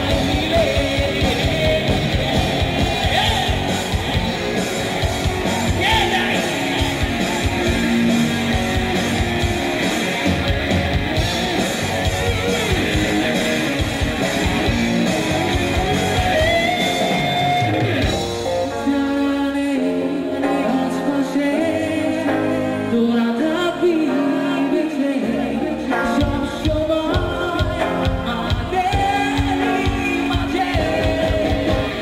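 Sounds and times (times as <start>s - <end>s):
drums: 0.0s - 32.0s
electric guitars: 0.0s - 32.0s
live rock band playing: 0.0s - 32.0s.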